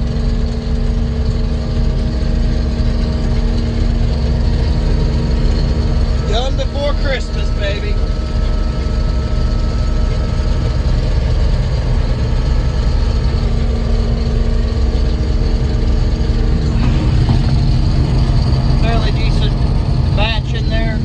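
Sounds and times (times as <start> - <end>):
heavy machinery engine rumbling: 0.0 - 21.0.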